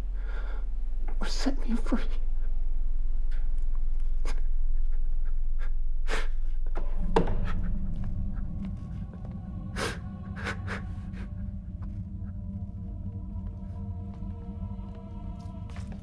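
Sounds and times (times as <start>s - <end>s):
dark music drone: 0.0s - 16.0s
low steady hum: 0.0s - 16.0s.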